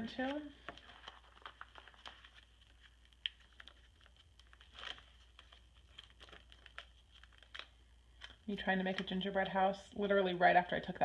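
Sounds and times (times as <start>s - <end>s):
plastic pages rustling: 0.0s - 10.3s.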